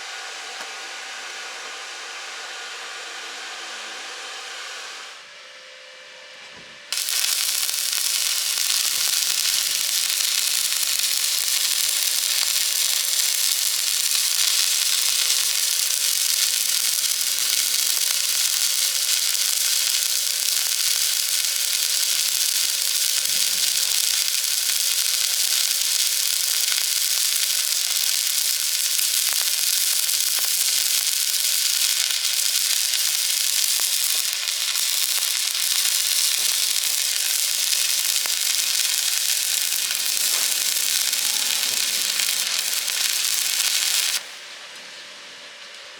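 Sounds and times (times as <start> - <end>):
arc welding hiss: 6.9 - 44.5.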